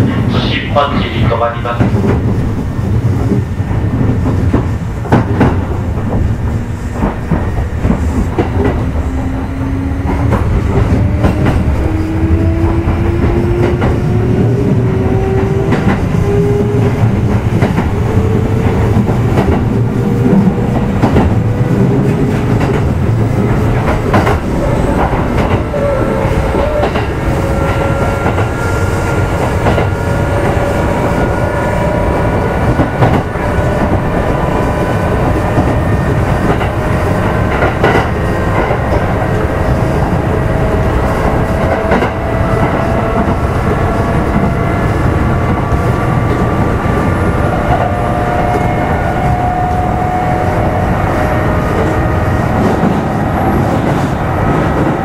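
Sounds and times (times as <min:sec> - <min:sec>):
rail joint clacks: 0:00.0 - 0:55.0
train rumble: 0:00.0 - 0:55.0.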